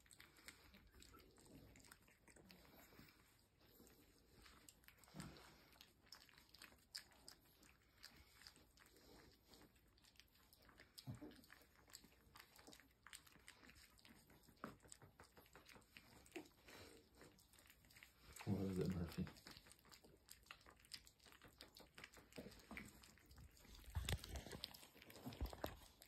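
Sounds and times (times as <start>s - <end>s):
puppies chewing food: 0.0s - 26.0s.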